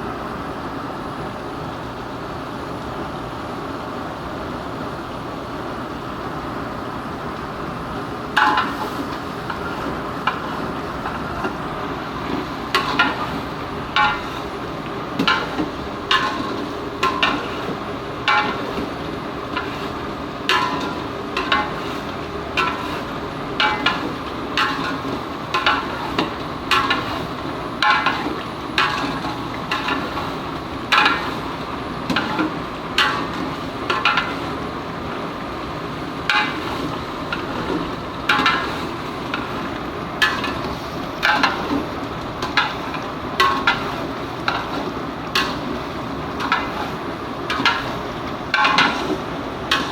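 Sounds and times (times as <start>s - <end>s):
frying hiss: 0.0s - 49.9s.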